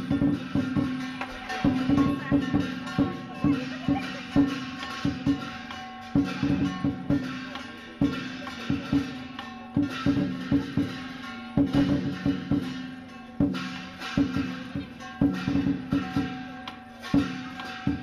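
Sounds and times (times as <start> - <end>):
cymbals ringing: 0.0 - 18.0
large drum strikes: 0.0 - 18.0.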